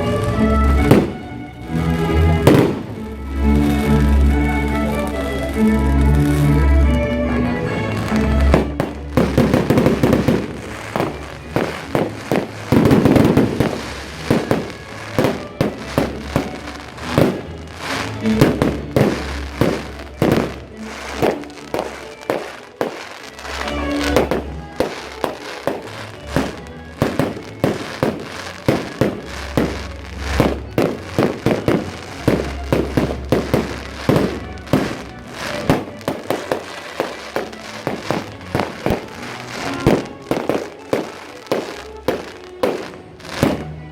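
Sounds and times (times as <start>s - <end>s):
fireworks bangs and crackling: 0.0s - 6.9s, 7.8s - 43.9s
music playing: 0.0s - 43.9s.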